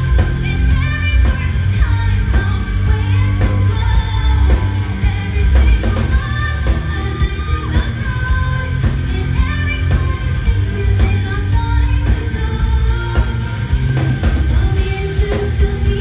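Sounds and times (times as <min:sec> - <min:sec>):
live rock band playing: 0:00.0 - 0:16.0
woman singing: 0:00.0 - 0:16.0.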